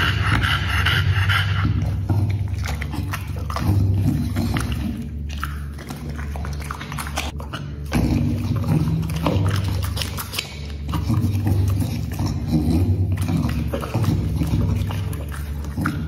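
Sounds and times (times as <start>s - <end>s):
dog chewing meat: 0.0s - 16.0s.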